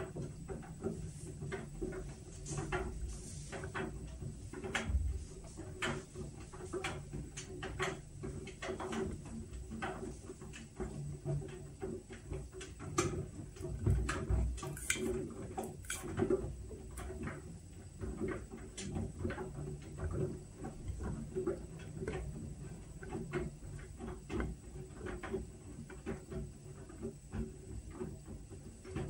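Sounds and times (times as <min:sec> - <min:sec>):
washing machine humming: 0:00.0 - 0:29.0.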